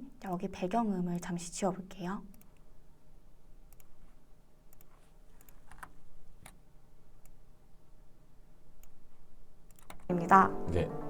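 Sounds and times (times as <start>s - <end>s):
faint low room hum: 0.0s - 11.0s.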